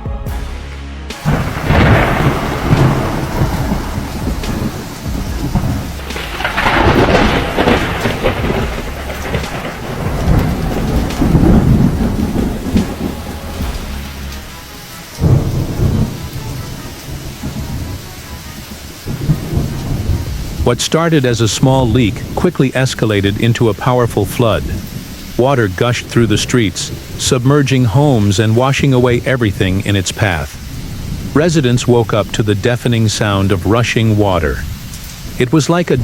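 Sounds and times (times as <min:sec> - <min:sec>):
thunder crack: 0:00.0 - 0:36.0
rolling thunder: 0:00.3 - 0:36.0
steady rain: 0:00.8 - 0:36.0.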